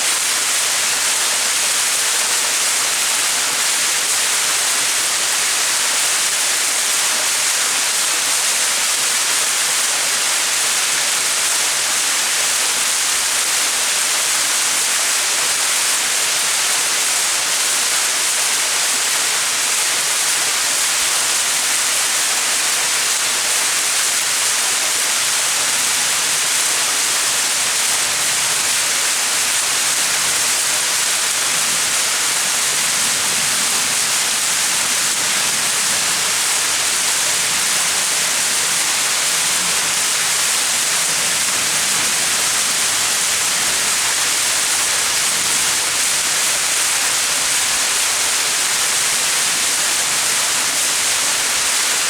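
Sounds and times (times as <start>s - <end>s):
small waterfall splashing: 0.0s - 52.0s.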